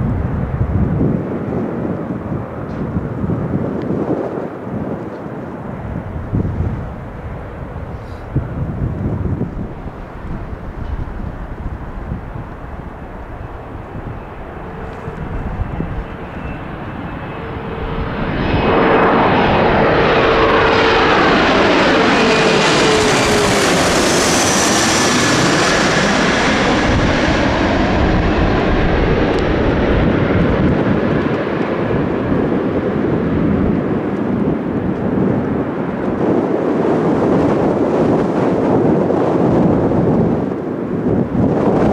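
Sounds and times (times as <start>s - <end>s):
jet passing overhead: 0.0s - 41.9s.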